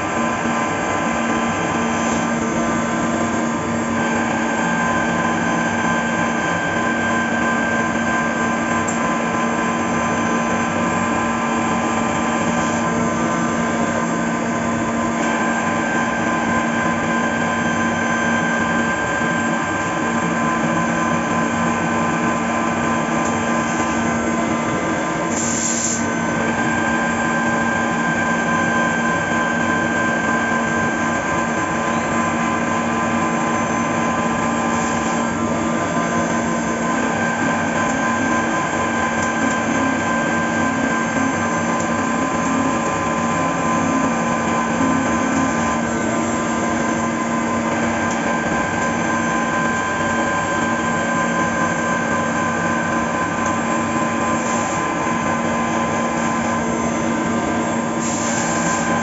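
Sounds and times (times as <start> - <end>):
mechanical hum: 0.0 - 59.0
spindle whine: 0.0 - 59.0.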